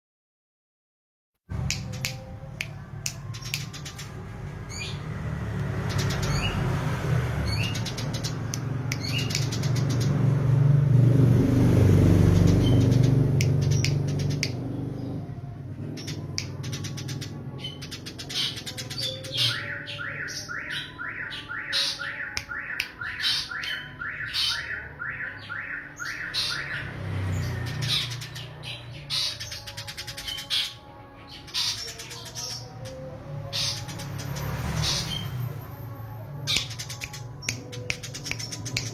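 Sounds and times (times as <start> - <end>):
sparrows squawking and chirping: 1.5 - 38.9.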